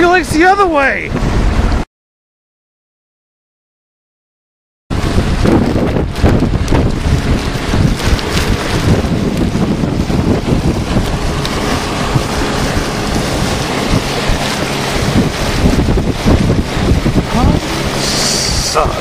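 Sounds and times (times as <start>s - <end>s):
wind buffeting microphone: 0.0s - 1.8s, 4.9s - 19.0s.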